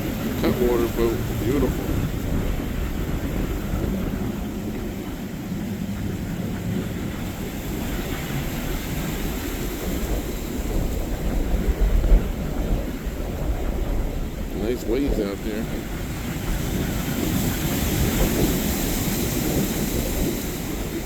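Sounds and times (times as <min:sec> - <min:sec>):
boat engine droning: 0:00.0 - 0:21.0
wind buffeting microphone: 0:00.0 - 0:21.0.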